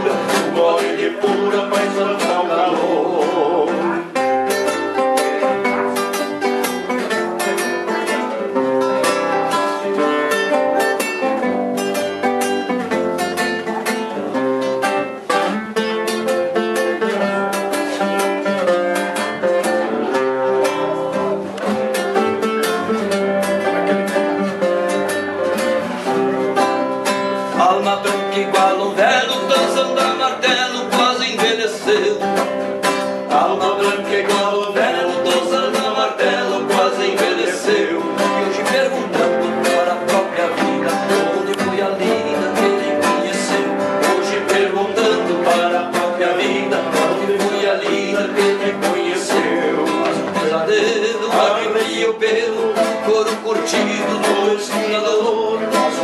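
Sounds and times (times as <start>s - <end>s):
classical guitar strummed and picked: 0.0s - 56.0s.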